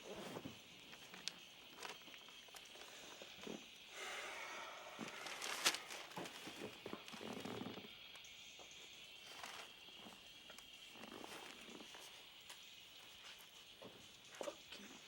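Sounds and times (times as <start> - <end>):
low room noise: 0.0 - 15.0.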